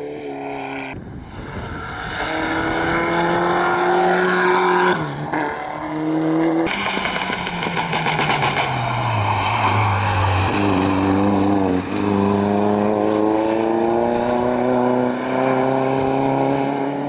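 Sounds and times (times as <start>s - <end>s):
rally car engine at high revs: 0.0s - 17.0s.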